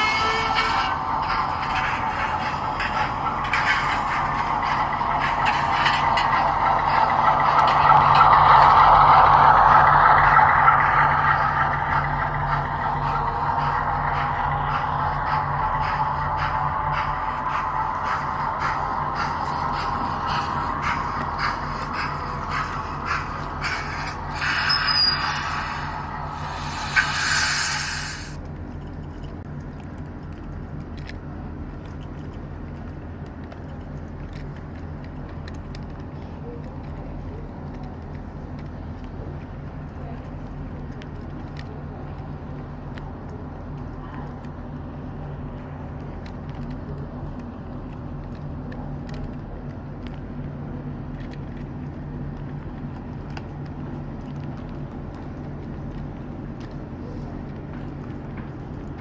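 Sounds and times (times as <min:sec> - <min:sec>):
model locomotive engine hum: 0:00.0 - 0:59.0
train clicking on track: 0:00.0 - 0:59.0.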